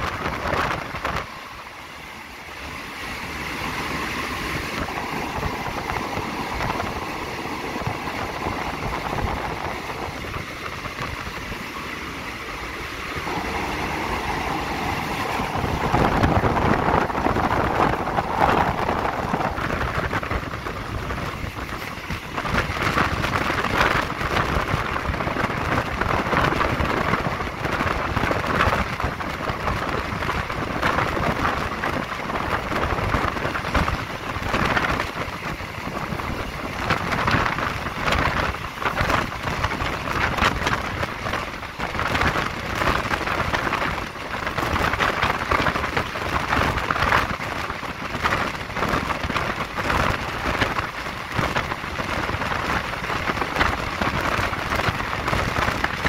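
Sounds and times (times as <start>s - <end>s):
train clicks and knocks: 0.0s - 1.8s, 2.5s - 56.0s
train wheel and rail rush: 0.0s - 56.0s.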